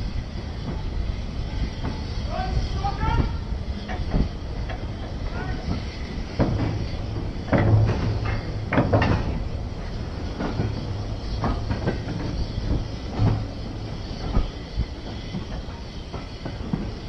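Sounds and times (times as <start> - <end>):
low train rumble: 0.0 - 17.0
train wheels clicking over rail joints: 0.0 - 17.0.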